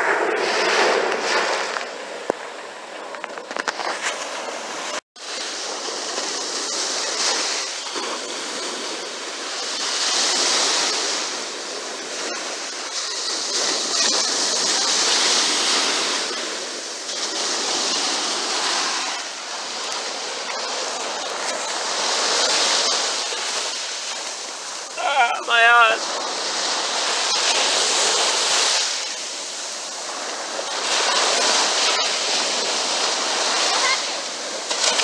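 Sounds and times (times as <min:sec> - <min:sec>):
waves breaking on sand: 0:00.0 - 0:35.0.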